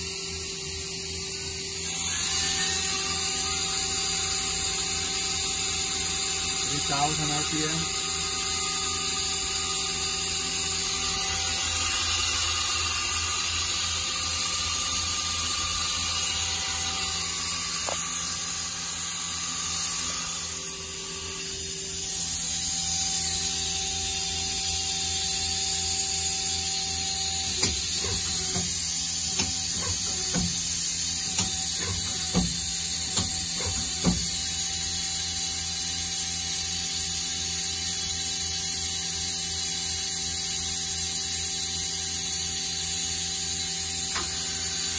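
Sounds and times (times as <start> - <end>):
machine motor whine: 0.0 - 44.9.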